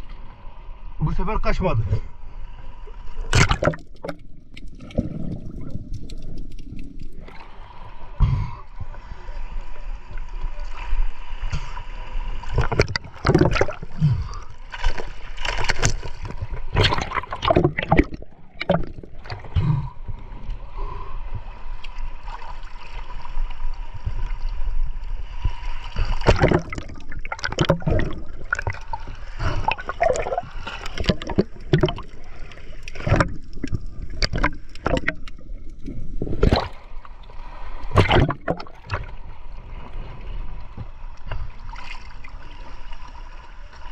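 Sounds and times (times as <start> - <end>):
sea water splashing: 2.0 - 43.9.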